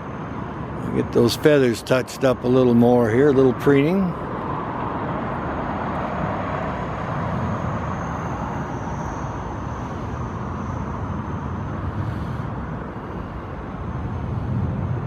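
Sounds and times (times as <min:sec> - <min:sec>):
faint high whine: 0:00.0 - 0:15.0
traffic rumble: 0:00.0 - 0:15.0.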